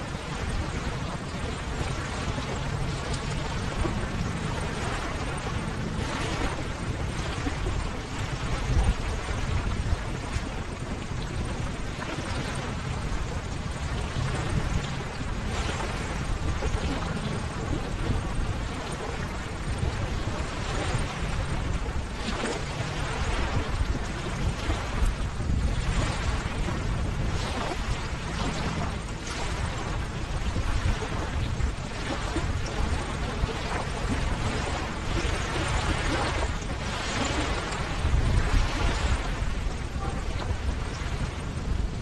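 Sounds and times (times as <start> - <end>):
ocean waves breaking on shore: 0.0 - 42.0.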